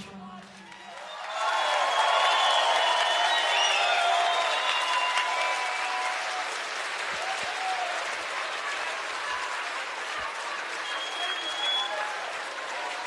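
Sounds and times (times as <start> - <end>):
audience applauding: 0.5 - 13.0.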